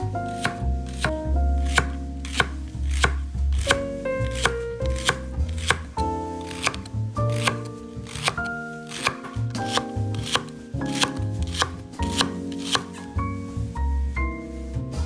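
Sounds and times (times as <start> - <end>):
background music: 0.0 - 15.0
knife cutting on wooden board: 0.2 - 13.1.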